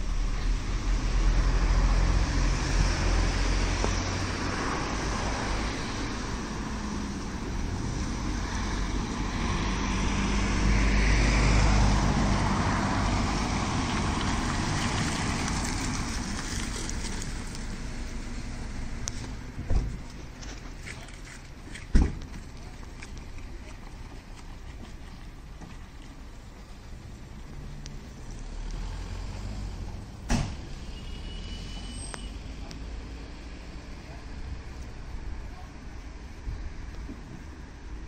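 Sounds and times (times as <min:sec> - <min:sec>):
low engine hum: 0:00.0 - 0:31.0
cars passing: 0:00.0 - 0:38.0.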